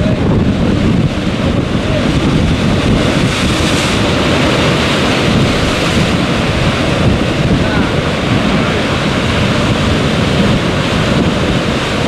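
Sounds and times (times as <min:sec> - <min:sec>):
sea waves breaking against rocks: 0:00.0 - 0:12.0
wind buffeting microphone: 0:00.0 - 0:12.0.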